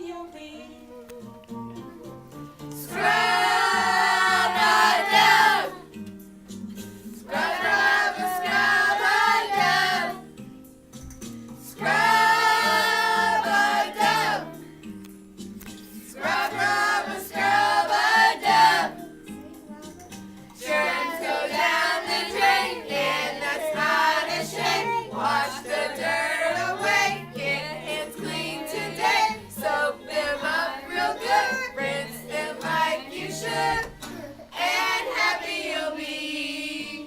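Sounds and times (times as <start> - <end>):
voices singing: 0.0 - 6.0, 7.2 - 10.3, 11.7 - 14.7, 16.0 - 37.0.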